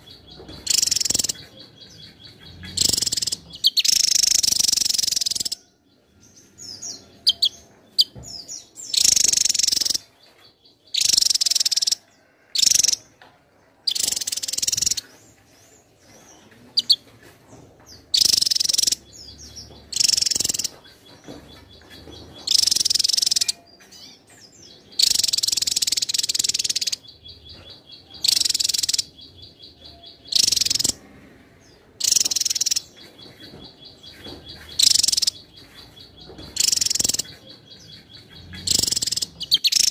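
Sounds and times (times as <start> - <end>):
faint high bird trill: 0.0 - 10.1, 10.7 - 13.1, 18.1 - 39.9
bird singing high phrases: 0.0 - 12.0, 13.9 - 15.2, 18.0 - 31.1, 32.0 - 39.9.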